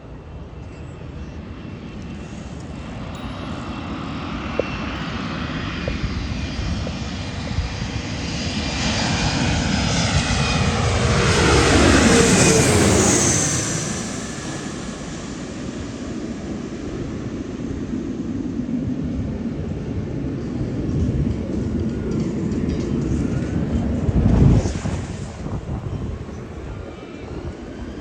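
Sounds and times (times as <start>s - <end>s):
airliner engine roar: 0.0s - 28.0s
wind buffeting microphone: 0.4s - 28.0s.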